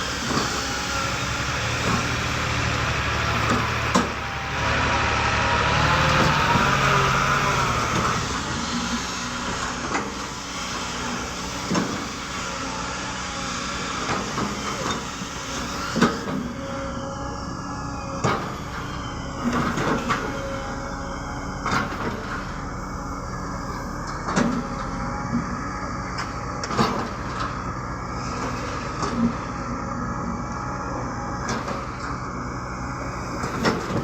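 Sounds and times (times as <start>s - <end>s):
excavator diesel engine: 0.0s - 34.0s.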